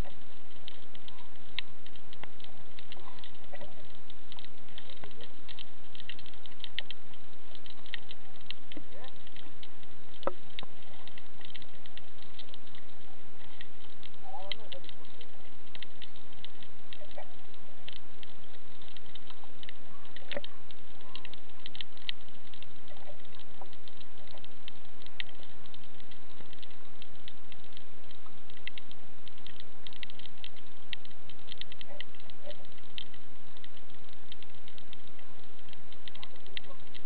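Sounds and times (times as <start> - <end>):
underwater snapping shrimp crackle: 0.0 - 37.0.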